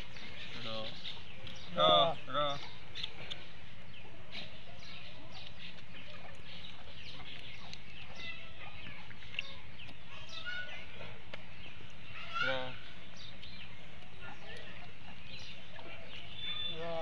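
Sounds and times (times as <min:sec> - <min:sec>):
bird chirps and clucks: 0:00.0 - 0:17.0.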